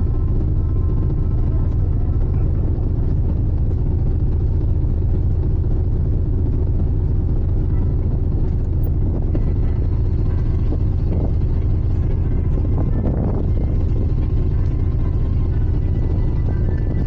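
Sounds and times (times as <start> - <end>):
faint steady tones: 0.0 - 17.0
ship engine drone: 0.0 - 17.0.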